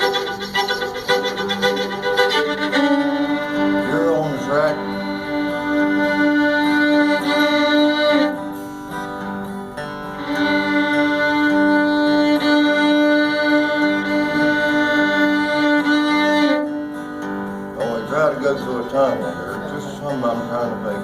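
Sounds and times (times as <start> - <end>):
fiddle drone: 0.0 - 21.0
rhythmic fiddle bow strokes: 0.0 - 21.0.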